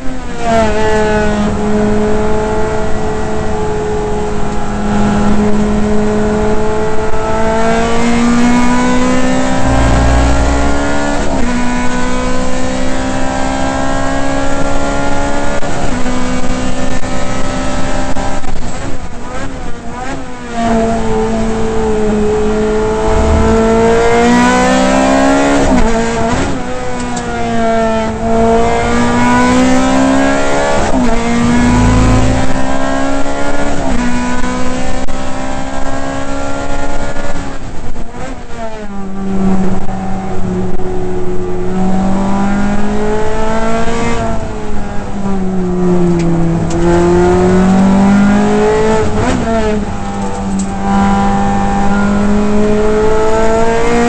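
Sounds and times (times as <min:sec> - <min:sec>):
race car engine revving: 0:00.7 - 0:54.0.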